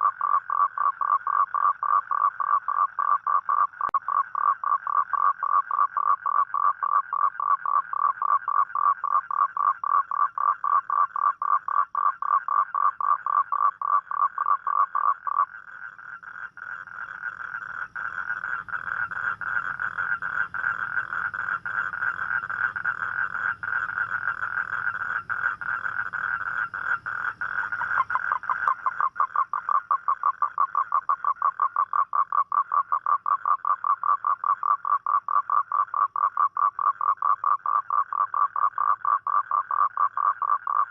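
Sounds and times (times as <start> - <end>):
toad croaking and trilling: 0.0 - 40.9.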